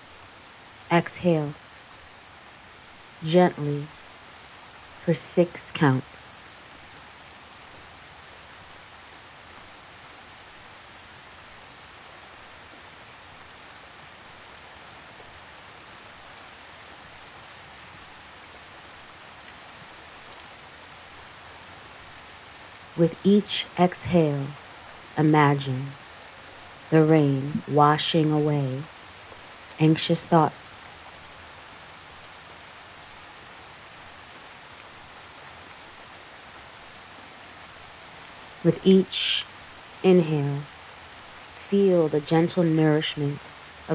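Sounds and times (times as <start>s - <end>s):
gentle rain falling: 0.0s - 43.9s.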